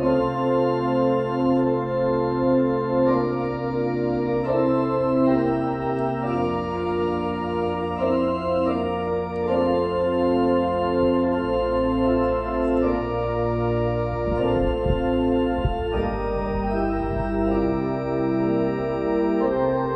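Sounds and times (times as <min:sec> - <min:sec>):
organ chords: 0:00.0 - 0:19.9
organ pedal bass notes: 0:00.0 - 0:19.9.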